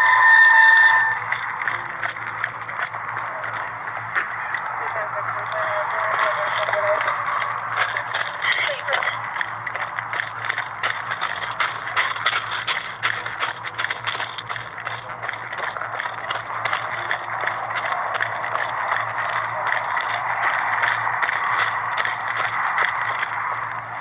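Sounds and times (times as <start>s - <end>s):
footsteps: 0.7s - 24.0s
keys and equipment jangling: 0.9s - 24.0s.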